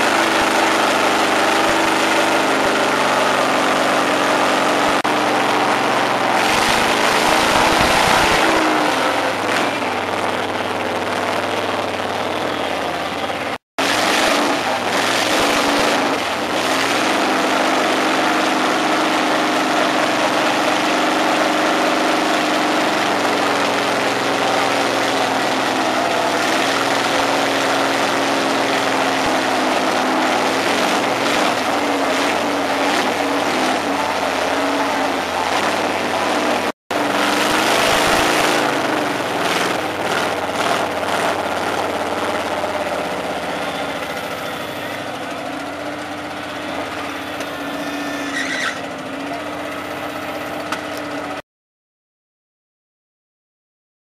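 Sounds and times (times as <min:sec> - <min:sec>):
buggy engine running hard: 0:00.0 - 0:51.4
tires churning through mud: 0:00.0 - 0:51.4.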